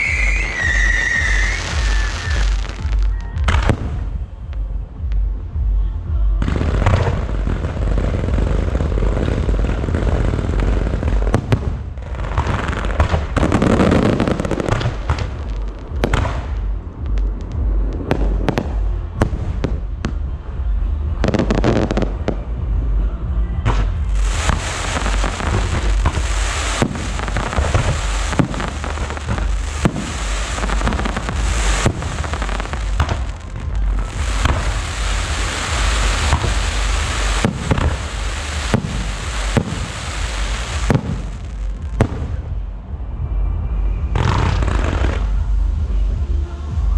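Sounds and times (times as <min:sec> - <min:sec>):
fireworks booming and crackling: 0:00.0 - 0:46.9.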